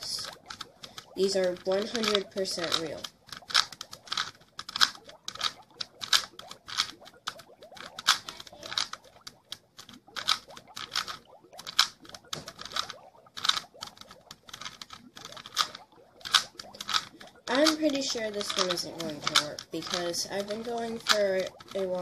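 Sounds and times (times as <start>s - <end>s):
puzzle cube twisting clicks: 0.1s - 22.0s.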